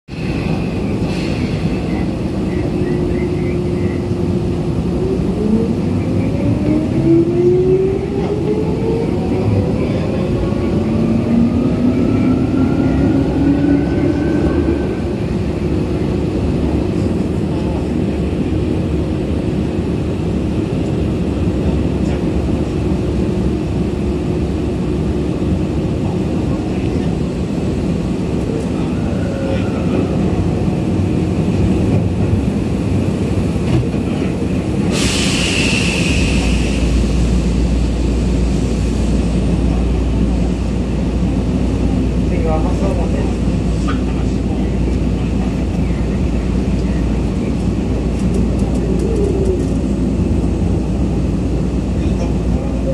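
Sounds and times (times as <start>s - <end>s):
train wheels rumbling on rail: 0.1s - 52.9s.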